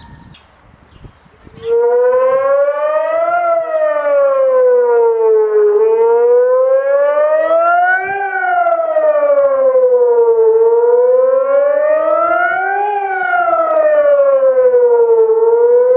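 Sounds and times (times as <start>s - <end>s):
electronic siren wailing: 0.0s - 0.3s, 1.4s - 15.9s.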